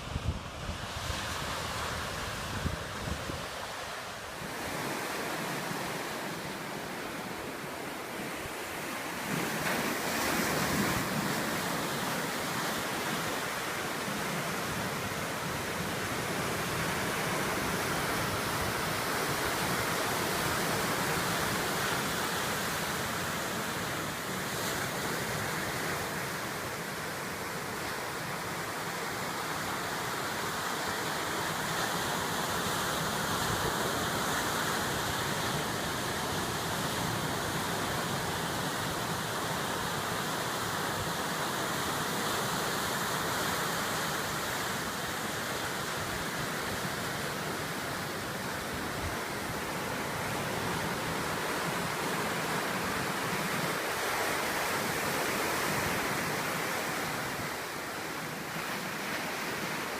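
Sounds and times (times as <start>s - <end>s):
surf waves breaking on shore: 0.0s - 59.9s.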